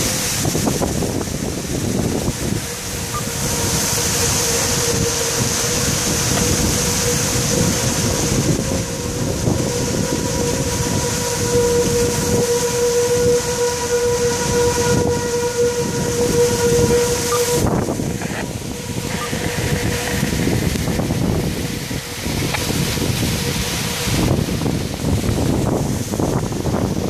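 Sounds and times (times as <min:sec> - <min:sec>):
heavy rain: 0:00.0 - 0:27.0
tornado siren steady tone: 0:00.0 - 0:27.0
wind buffeting microphone: 0:00.0 - 0:27.0.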